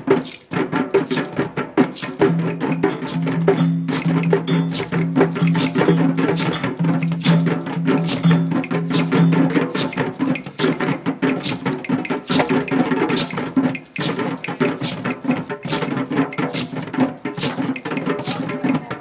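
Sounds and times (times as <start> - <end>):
djembe hand drumming: 0.0 - 19.0.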